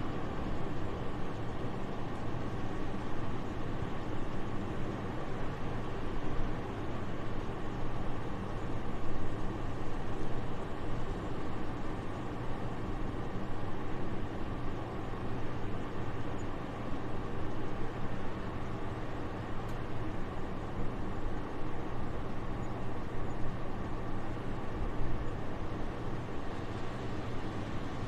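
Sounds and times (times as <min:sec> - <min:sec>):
soft steady wind: 0:00.0 - 0:28.0.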